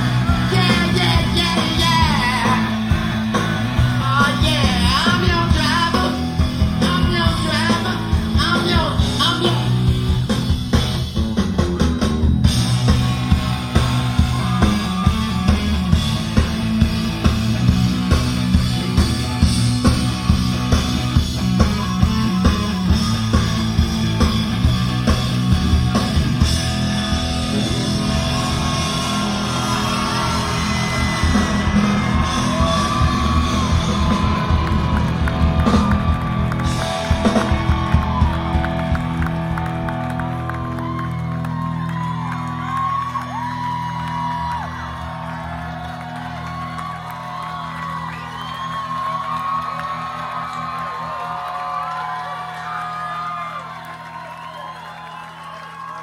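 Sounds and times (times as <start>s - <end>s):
live rock band playing: 0.0s - 54.2s.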